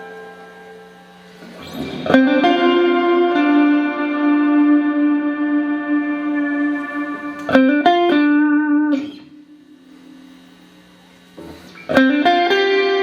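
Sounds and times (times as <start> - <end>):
clean electric guitar notes: 0.0 - 10.4, 11.9 - 13.0.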